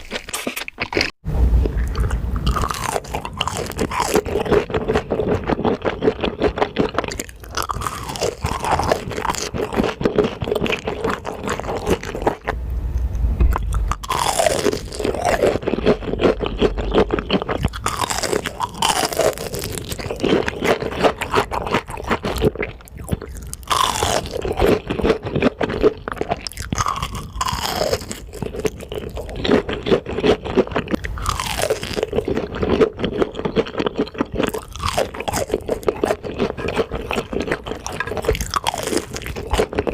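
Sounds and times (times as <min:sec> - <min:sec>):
crunching and chewing food: 0:00.0 - 0:12.6, 0:13.4 - 0:39.9.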